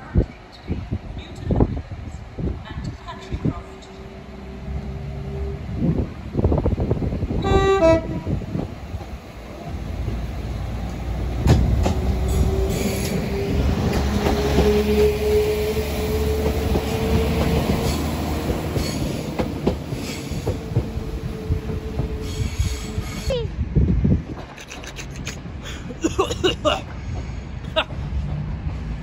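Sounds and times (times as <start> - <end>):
rising train whine: 0.0 - 24.6
train engine and wheels rumbling: 0.0 - 29.0.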